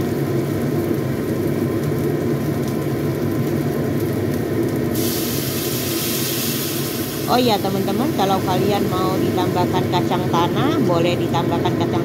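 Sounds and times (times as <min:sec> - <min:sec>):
loud hiss of water in hot oil: 0:00.0 - 0:10.6
shallots sizzling in oil: 0:00.0 - 0:12.0.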